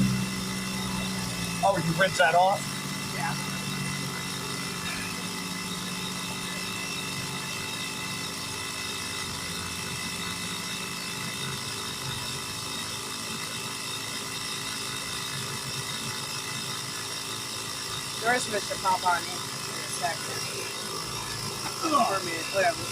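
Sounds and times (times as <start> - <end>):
air compressor running: 0.0 - 22.9.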